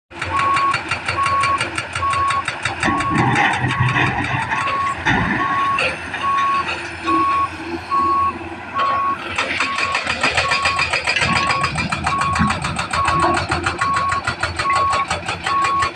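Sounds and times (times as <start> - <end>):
heavy machinery running: 0.1 - 15.9
backup alarm beeping: 0.3 - 15.9.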